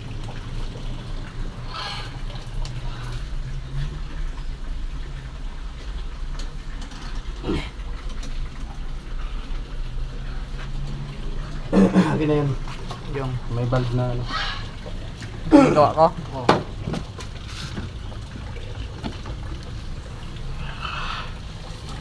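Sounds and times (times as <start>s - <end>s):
constant low hum: 0.0s - 22.0s
water running in plumbing: 0.0s - 22.0s.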